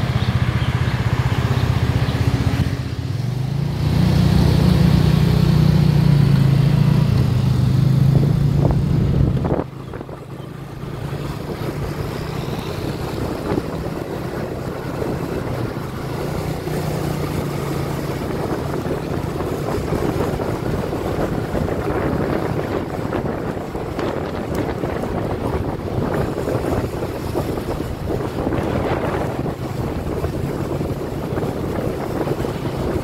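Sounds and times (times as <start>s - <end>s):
motorcycle engine hum: 0.0s - 33.0s
road noise: 0.0s - 33.0s
wind buffeting microphone: 0.0s - 33.0s.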